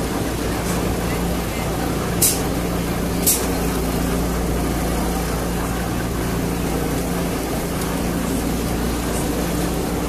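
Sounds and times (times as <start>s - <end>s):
tram hum and rumble on rails: 0.0s - 10.0s.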